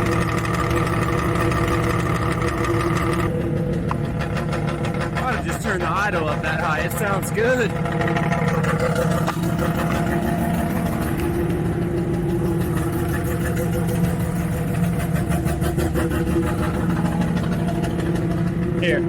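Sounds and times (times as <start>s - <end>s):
rotary engine idling high: 0.0s - 19.0s.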